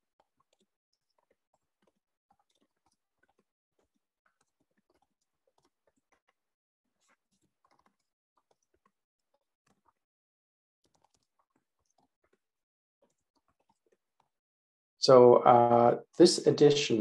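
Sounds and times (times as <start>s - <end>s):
keyboard typing: 0.0s - 10.1s, 10.8s - 14.4s.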